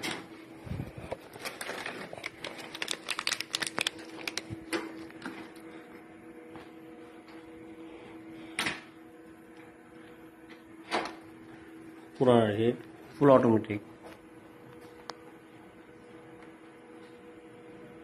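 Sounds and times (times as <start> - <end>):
machine low hum: 0.0 - 18.0.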